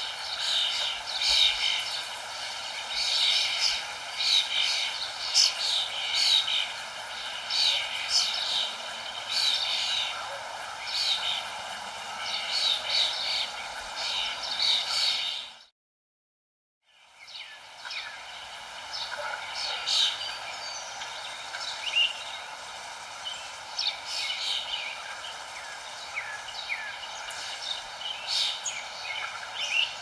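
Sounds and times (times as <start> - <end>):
small birds chirping: 0.0 - 15.7, 16.9 - 30.0
steady background hiss: 0.0 - 15.7, 16.9 - 30.0.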